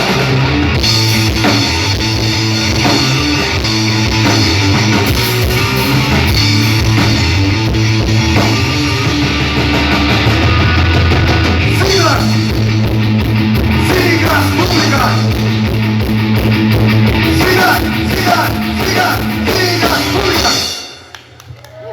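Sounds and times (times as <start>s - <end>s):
bass guitar: 0.0s - 21.2s
drum kit beat: 0.0s - 21.4s
electric guitar: 0.0s - 21.6s.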